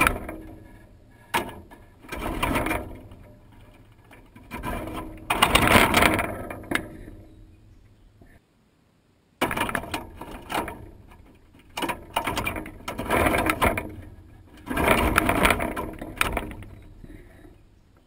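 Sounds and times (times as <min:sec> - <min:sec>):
bird pecking rattling wire feeder: 0:00.0 - 0:07.3, 0:09.4 - 0:17.4.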